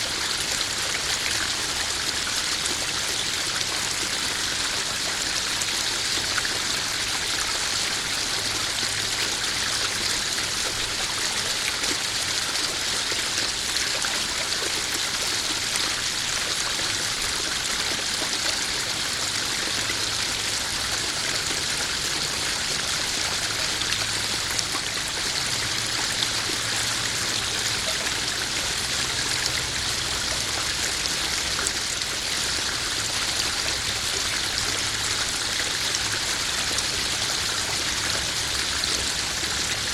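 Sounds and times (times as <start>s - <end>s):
pond waterfall splashing: 0.0s - 39.9s.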